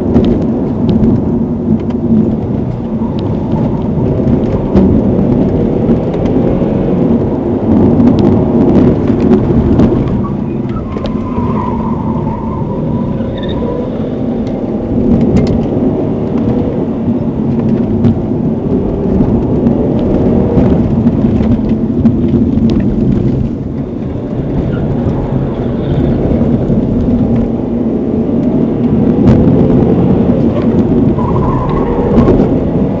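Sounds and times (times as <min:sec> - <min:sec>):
car engine rumble from cabin: 0:00.0 - 0:33.0.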